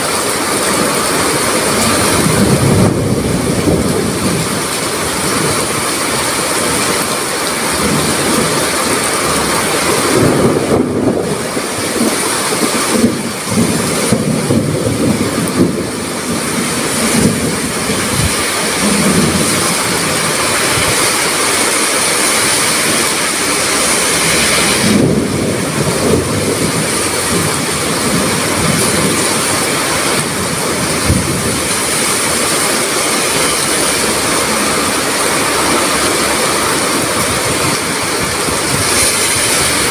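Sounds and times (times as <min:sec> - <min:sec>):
gusting wind: 0:00.0 - 0:39.9
heavy rain pouring: 0:00.0 - 0:39.9
thunder rumbling: 0:00.0 - 0:39.9.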